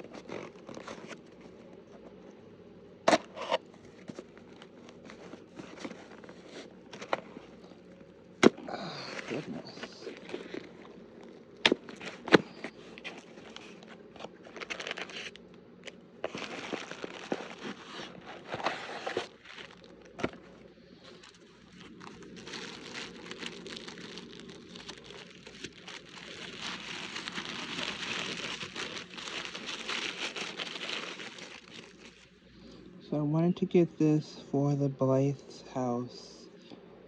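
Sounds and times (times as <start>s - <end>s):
packaging crinkling and rustling: 0.0s - 2.2s, 3.1s - 32.4s.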